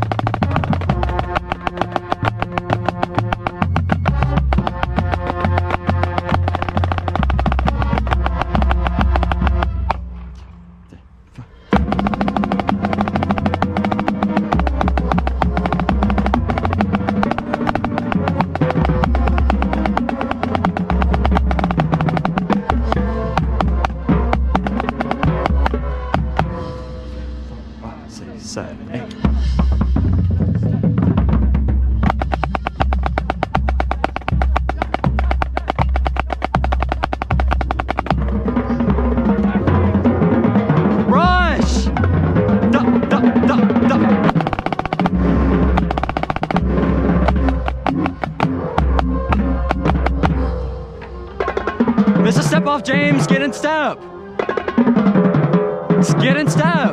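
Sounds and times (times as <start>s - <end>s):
rapid snare drum strokes: 0.0s - 10.0s, 11.7s - 26.6s, 31.9s - 50.6s, 51.4s - 56.9s
marching band music: 0.0s - 10.8s, 11.6s - 28.8s, 29.6s - 56.9s.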